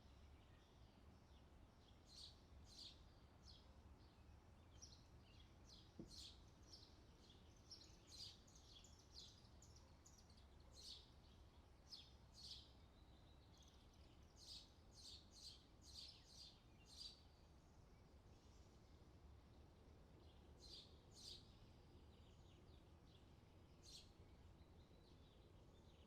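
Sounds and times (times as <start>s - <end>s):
faint songbirds chirping: 0.0s - 26.0s
low steady background rumble: 0.0s - 26.0s.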